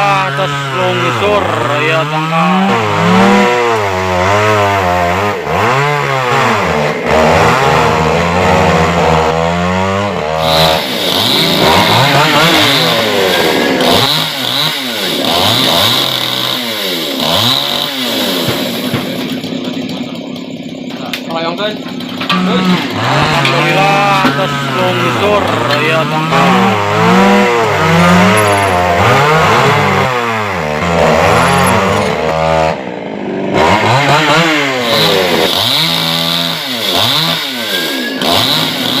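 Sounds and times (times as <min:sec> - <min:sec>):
chainsaw engine revving: 0:00.0 - 0:39.0.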